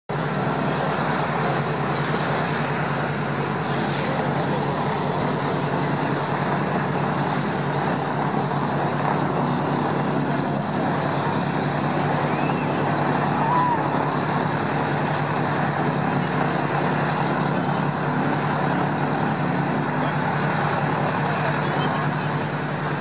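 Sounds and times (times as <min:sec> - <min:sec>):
aircraft radial engines running: 0:00.1 - 0:23.0.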